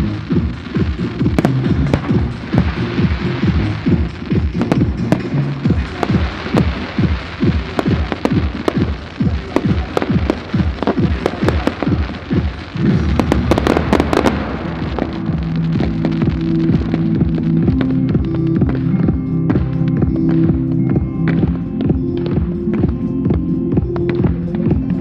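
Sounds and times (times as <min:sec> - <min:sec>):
crackling bangs: 0:00.0 - 0:25.0
fireworks launching and bursting: 0:00.0 - 0:25.0
music with pounding beat: 0:00.0 - 0:25.0.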